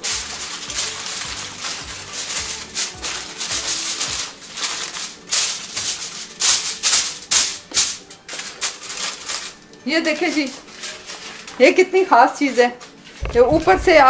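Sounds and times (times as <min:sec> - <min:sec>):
aluminium foil crinkling: 0:00.0 - 0:14.0
soft background music: 0:00.0 - 0:14.0.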